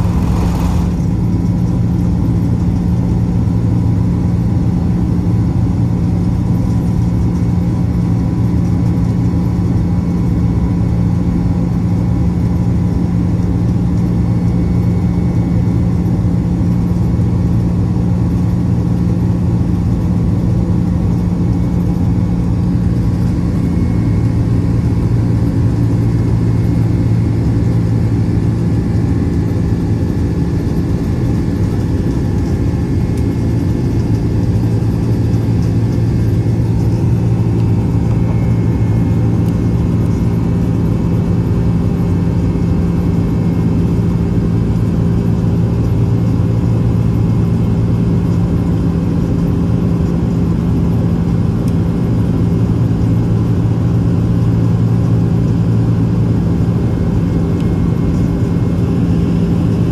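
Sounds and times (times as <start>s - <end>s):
jet engines droning in cabin: 0.0s - 59.9s.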